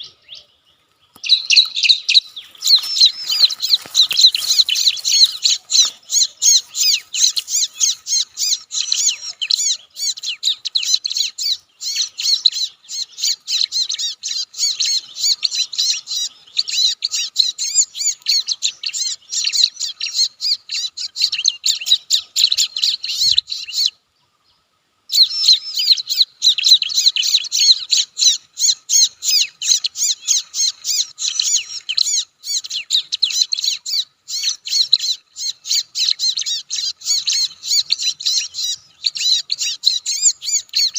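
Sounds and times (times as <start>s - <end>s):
bird chattering call: 1.2s - 23.9s, 25.1s - 40.9s.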